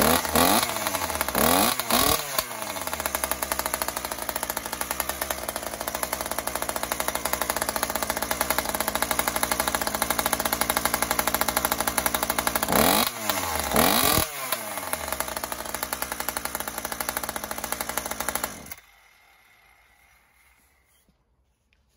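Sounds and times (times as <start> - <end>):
chainsaw idling and revving: 0.0 - 20.6.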